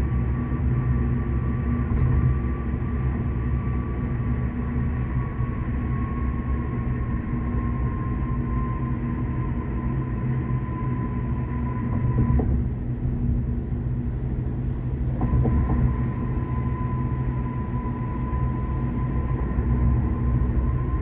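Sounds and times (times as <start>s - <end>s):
car road and engine rumble: 0.0s - 21.0s
thin steady whine: 0.0s - 21.0s.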